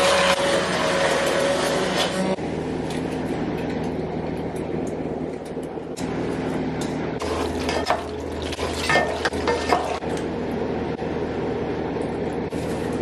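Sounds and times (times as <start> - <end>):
steady low hum: 2.3 - 13.0.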